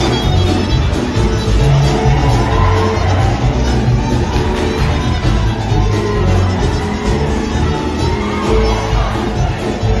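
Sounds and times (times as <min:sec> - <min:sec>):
drums: 0:00.0 - 0:10.0
fiddles: 0:00.0 - 0:10.0
keyboard: 0:00.0 - 0:10.0
live dance band music: 0:00.0 - 0:10.0.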